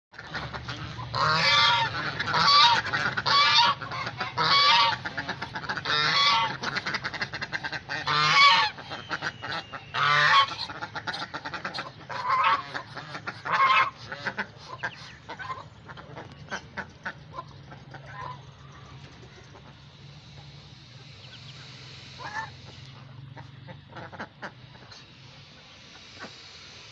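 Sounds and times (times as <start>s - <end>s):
bills pecking at grain: 0.2s - 26.9s
geese honking: 0.2s - 26.9s.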